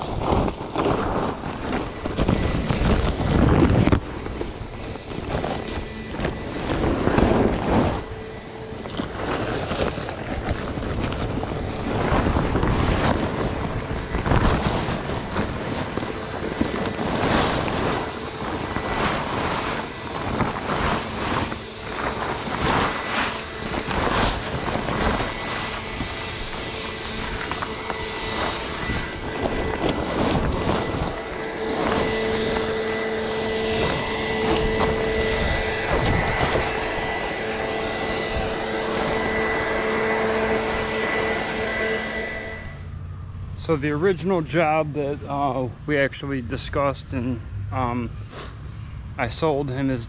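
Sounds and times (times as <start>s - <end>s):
wind on microphone: 0.0s - 42.8s
plastic tarps rustling: 0.0s - 42.9s.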